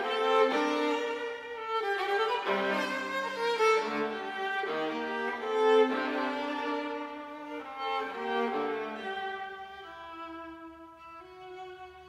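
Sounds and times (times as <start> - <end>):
bowed viola slow notes: 0.0 - 12.0.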